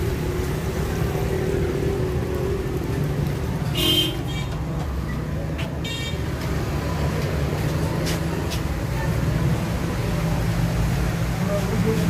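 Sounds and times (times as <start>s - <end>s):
traffic and engines hum: 0.0s - 12.0s.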